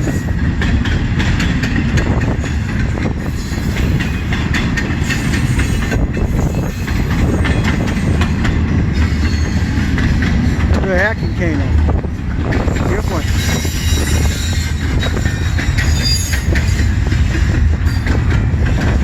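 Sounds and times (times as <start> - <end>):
freight train cars rumbling: 0.0 - 19.0
steel wheels clacking on rail joints: 0.0 - 19.0.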